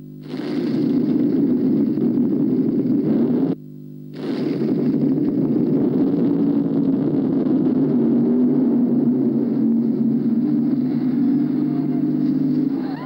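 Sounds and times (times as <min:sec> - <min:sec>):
loud engine roar: 0:00.2 - 0:03.6, 0:04.2 - 0:13.0.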